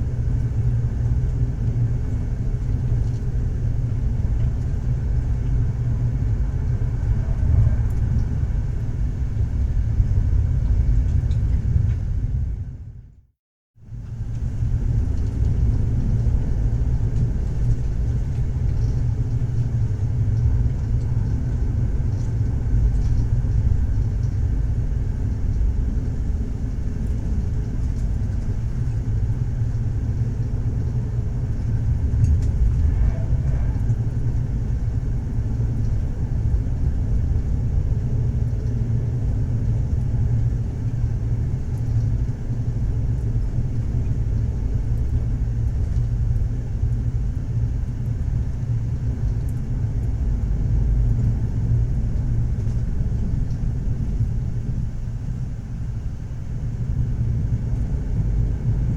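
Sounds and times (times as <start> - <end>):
train wheels rumbling on rails: 0.0 - 12.9, 13.9 - 55.5.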